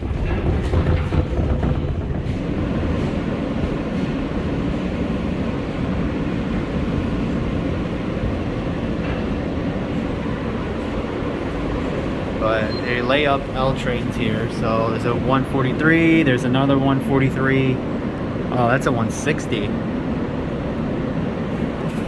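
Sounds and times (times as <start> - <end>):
subway train rumbling: 0.0 - 22.0
subway train wheels clacking: 0.0 - 22.0.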